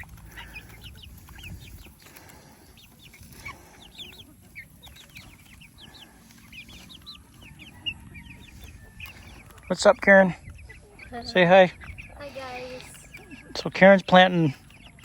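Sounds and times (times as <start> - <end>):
young chickens clucking and peeping: 0.0 - 15.0.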